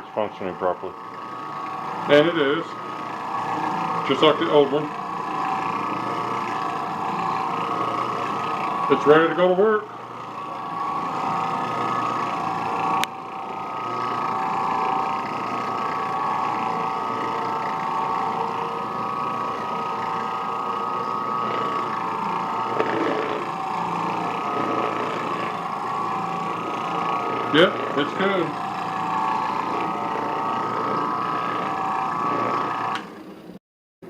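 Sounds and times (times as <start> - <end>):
floor machine motor whining: 0.0 - 33.6.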